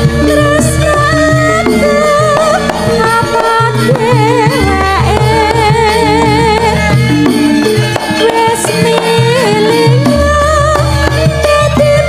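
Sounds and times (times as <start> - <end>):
hand drum: 0.0 - 12.0
struck metallophone notes: 0.0 - 12.0
woman singing ornamented melody: 0.1 - 12.0.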